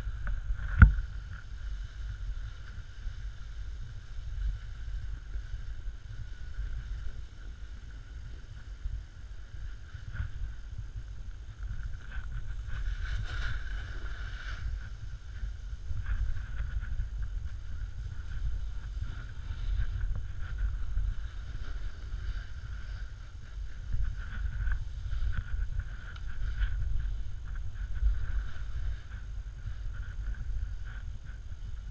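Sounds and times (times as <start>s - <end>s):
snowboard scraping over snow: 0.0s - 31.9s
wind rumble on microphone: 0.0s - 31.9s.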